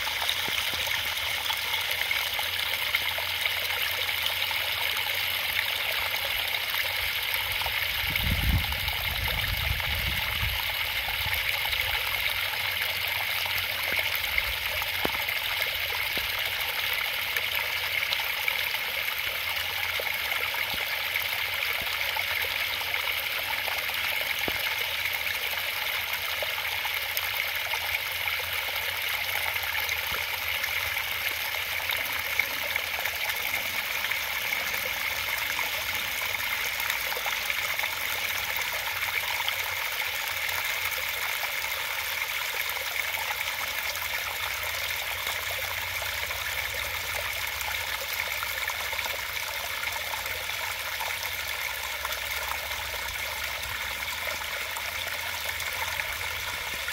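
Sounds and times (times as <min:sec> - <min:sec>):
small waterfall trickling and splashing: 0:00.0 - 0:56.9.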